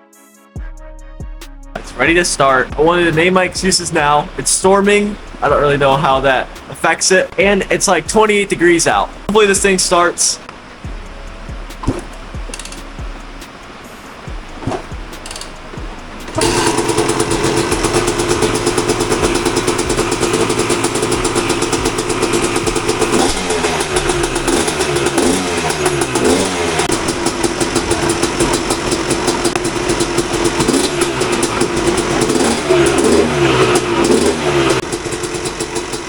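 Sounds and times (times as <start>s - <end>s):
two-stroke engine starting and running: 1.8s - 36.0s.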